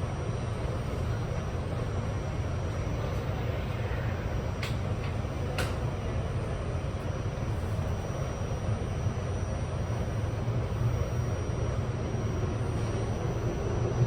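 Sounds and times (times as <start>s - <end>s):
faint high whine: 0.0s - 14.0s
subway car rumbling on track: 0.0s - 14.0s.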